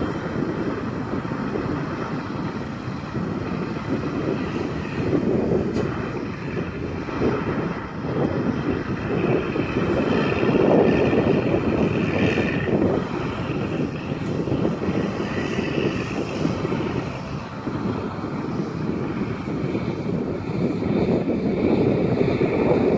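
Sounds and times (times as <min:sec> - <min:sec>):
tractor diesel engine rumble: 0:00.0 - 0:22.9.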